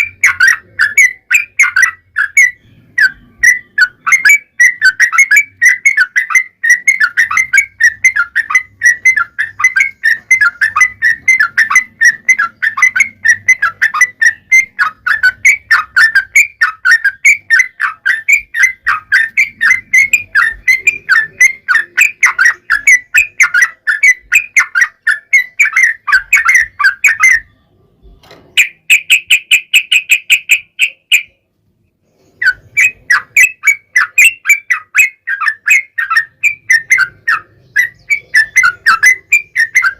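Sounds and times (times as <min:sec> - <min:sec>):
bird chattering song: 0:00.0 - 0:39.9
bird chirps: 0:00.0 - 0:39.9.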